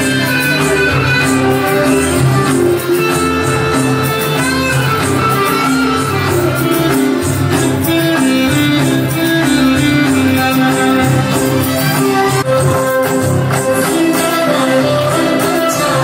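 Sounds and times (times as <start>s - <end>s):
dance music with plucked strings: 0.0s - 16.0s.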